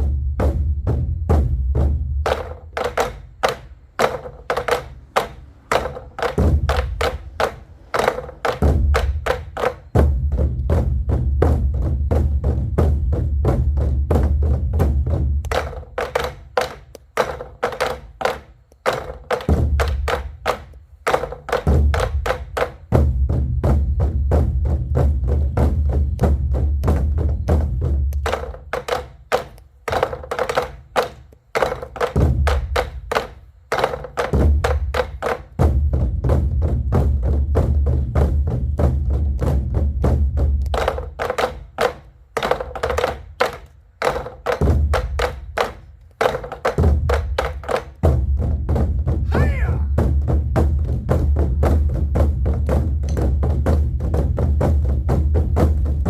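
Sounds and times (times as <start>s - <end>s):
low drum rolls: 0.0s - 30.9s, 31.5s - 56.0s
drum ensemble beating fast rhythm: 0.0s - 56.0s.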